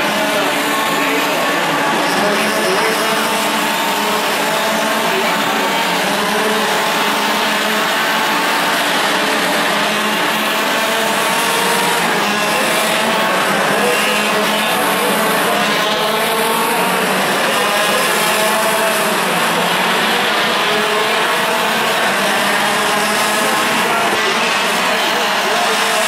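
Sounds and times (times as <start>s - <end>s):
kart engines racing past: 0.0s - 26.0s.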